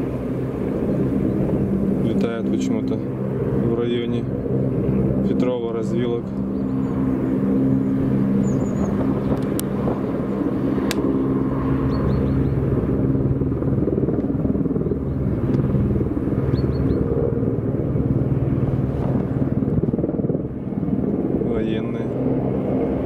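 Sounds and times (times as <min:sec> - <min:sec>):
helicopter rotors droning: 0:00.0 - 0:23.0.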